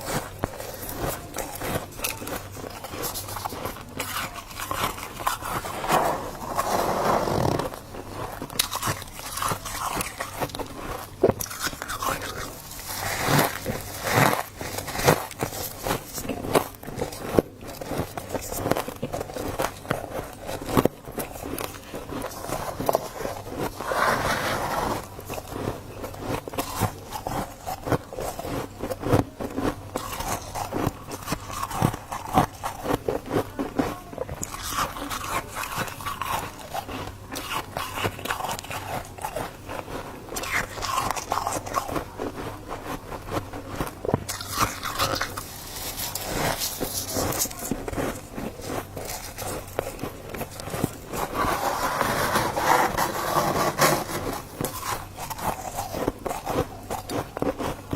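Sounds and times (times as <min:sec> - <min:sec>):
frost being chewed: 0:00.0 - 0:57.9.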